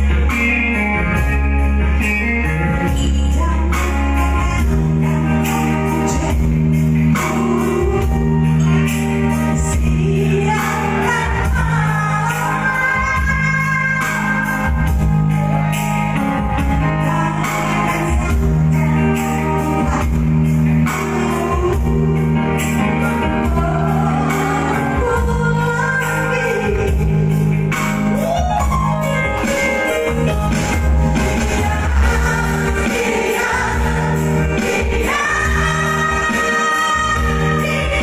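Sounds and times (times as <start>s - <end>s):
live band with keyboard: 0.0s - 38.0s
woman singing through microphone: 2.0s - 15.7s, 16.4s - 30.4s, 31.2s - 38.0s.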